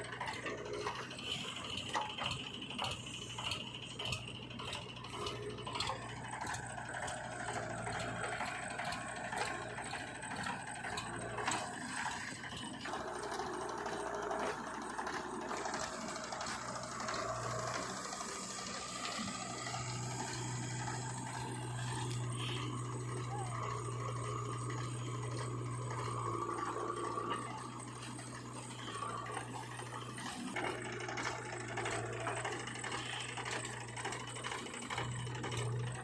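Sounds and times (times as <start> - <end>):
diesel machinery engine hum: 0.0 - 36.0.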